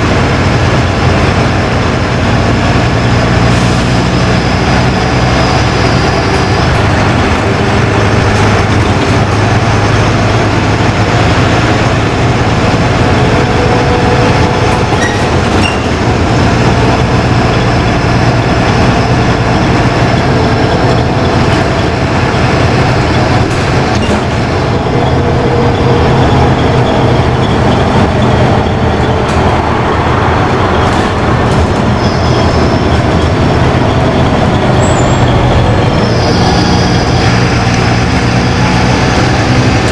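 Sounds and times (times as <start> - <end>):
bus engine drone and rolling: 0.0 - 39.9.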